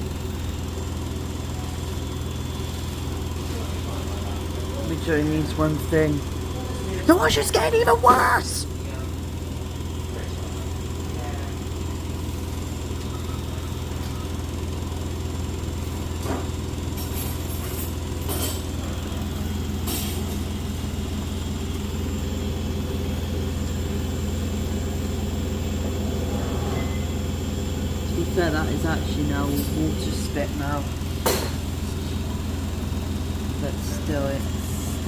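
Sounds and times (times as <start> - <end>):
washing machine spinning: 0.0 - 35.0.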